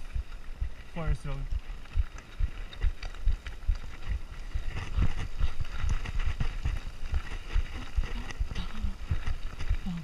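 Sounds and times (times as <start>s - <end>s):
mountain bike rattling: 0.0s - 10.0s.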